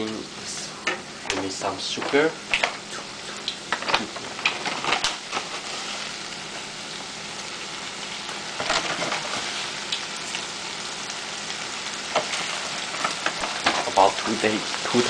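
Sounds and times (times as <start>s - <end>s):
food sizzling in a skillet: 0.0s - 15.0s.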